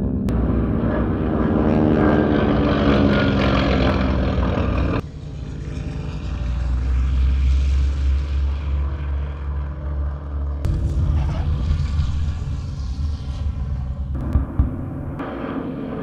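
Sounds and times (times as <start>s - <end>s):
plane approaching with deep hum: 0.0s - 16.0s
propeller planes droning past: 0.0s - 16.0s.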